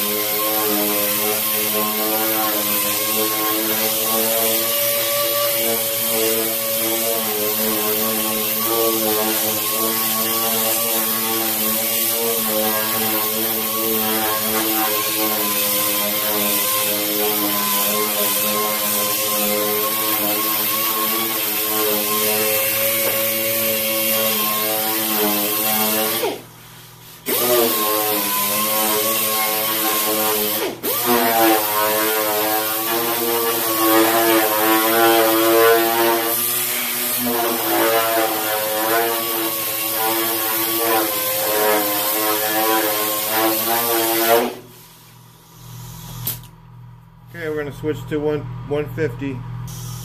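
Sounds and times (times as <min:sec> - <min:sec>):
pneumatic sander whining: 0:00.0 - 0:46.6.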